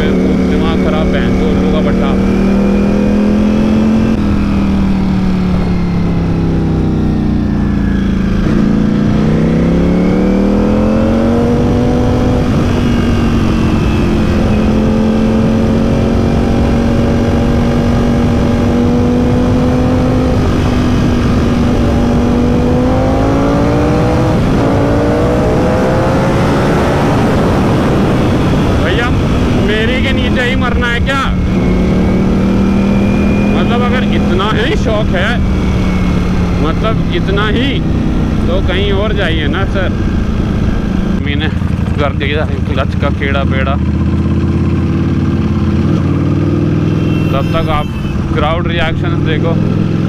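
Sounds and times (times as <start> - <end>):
wind rush: 0.0 - 42.2
motorcycle engine at speed: 0.0 - 50.0.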